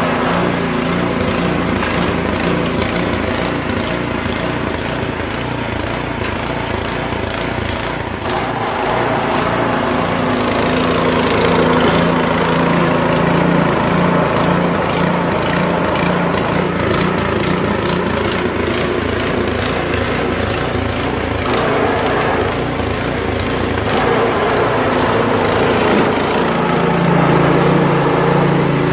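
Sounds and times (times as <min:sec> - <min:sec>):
snow blower engine running: 0:00.0 - 0:28.9.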